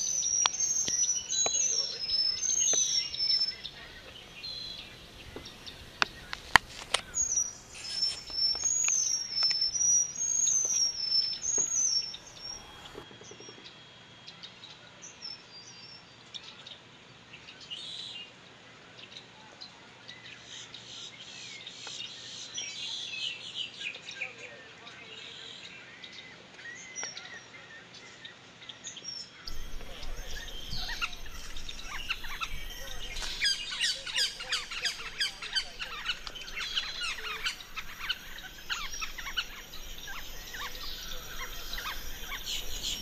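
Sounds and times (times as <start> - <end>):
songbird chirping: 0.0 - 43.0.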